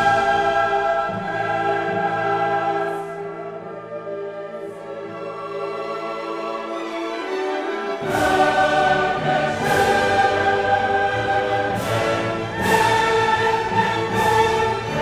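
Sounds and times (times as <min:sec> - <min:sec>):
choir singing with orchestra: 0:00.0 - 0:15.0.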